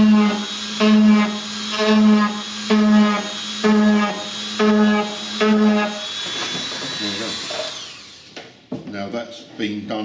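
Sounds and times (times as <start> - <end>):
rotary tool buzzing hum: 0.0 - 8.4.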